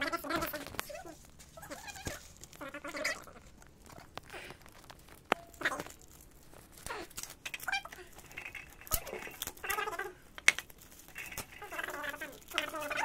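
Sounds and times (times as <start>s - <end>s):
cardboard rustling: 0.1s - 13.0s.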